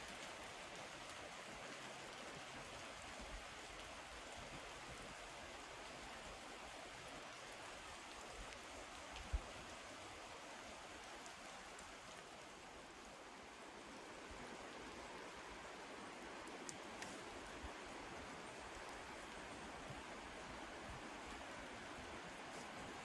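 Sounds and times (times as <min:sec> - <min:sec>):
light rain patter: 0:00.0 - 0:23.0.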